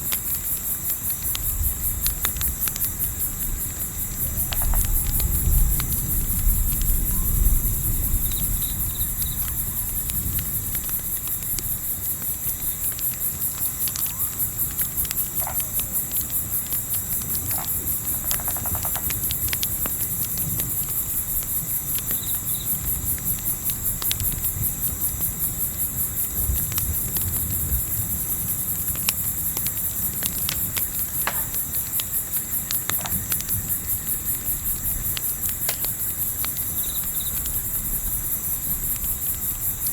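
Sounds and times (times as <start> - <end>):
campfire crackling and popping: 0.0 - 39.9
crickets chirping: 0.0 - 39.9
low rumble of wind: 0.0 - 39.9.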